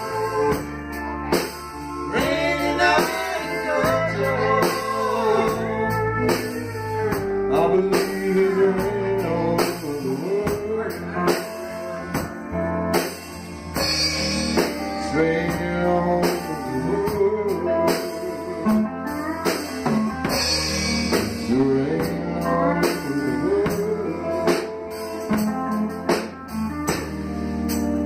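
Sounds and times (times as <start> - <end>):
drum kit: 0.0 - 28.0
electric bass guitar: 0.0 - 28.0
sliding lead melody: 0.0 - 28.0.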